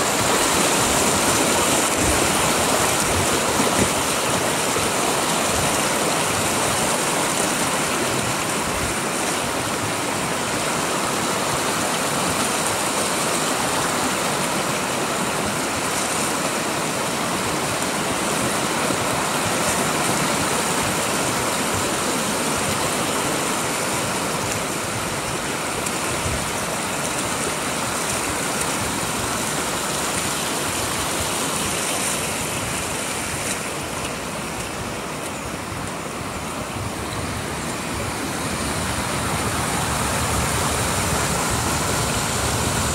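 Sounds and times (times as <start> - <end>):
river water rushing over rocks: 0.0 - 42.9.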